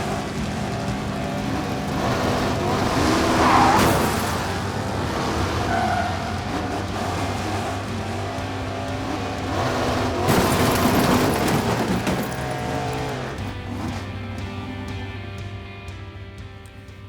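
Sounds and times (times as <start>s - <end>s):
car passing close: 0.0s - 15.1s
car engines revving: 0.0s - 17.0s.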